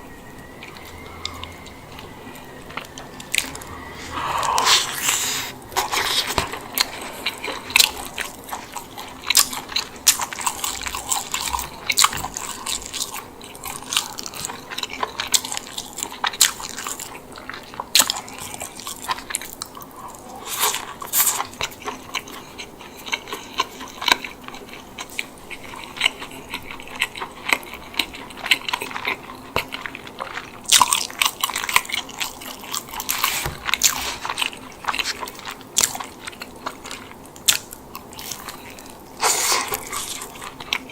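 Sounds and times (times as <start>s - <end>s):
chewing with wet mouth clicks: 0.4s - 40.9s.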